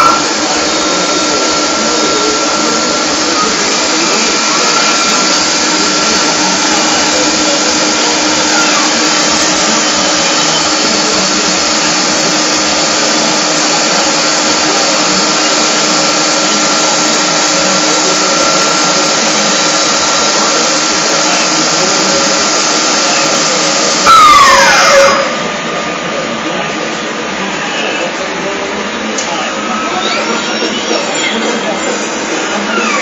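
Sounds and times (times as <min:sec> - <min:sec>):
factory machinery drone: 0:00.0 - 0:33.0
falling whine: 0:00.0 - 0:33.0.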